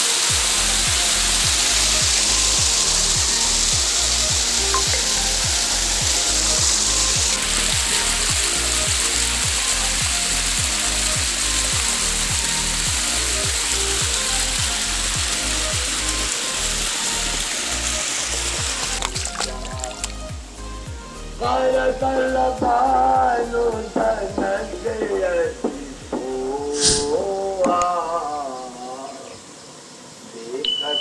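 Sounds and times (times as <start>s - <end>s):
music with beat and bass: 0.0s - 26.8s
loud steady hiss: 0.0s - 31.0s.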